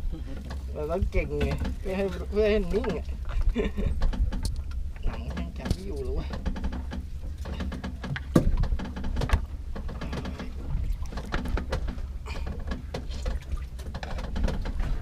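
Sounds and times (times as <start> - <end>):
low boat rumble: 0.0 - 15.0.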